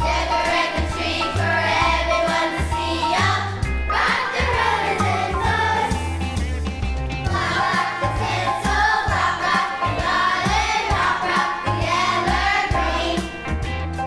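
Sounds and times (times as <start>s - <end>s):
choir singing: 0.0s - 6.1s, 7.3s - 13.4s
instrumental backing with beat: 0.0s - 14.0s.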